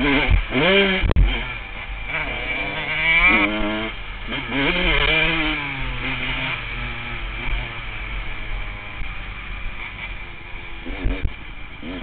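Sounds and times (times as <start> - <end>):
two-stroke motorcycle engine revving: 0.0 - 12.0.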